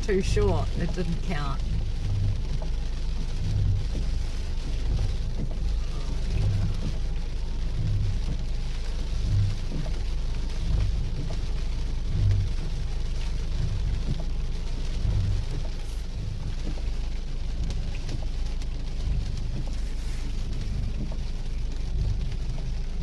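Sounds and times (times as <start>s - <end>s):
soft low thuds: 0.0s - 23.0s
storm wind and rain rumble: 0.0s - 23.0s.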